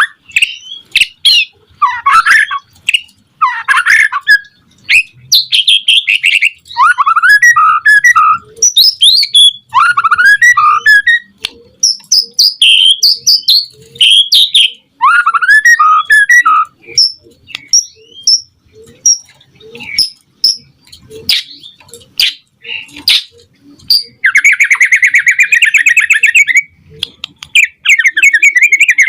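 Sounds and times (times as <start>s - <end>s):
bird singing whistled notes: 0.0s - 20.7s, 21.3s - 26.8s, 27.5s - 29.0s.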